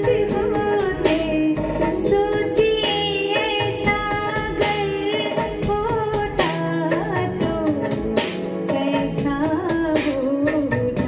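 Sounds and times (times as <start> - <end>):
instrumental accompaniment: 0.0 - 11.0.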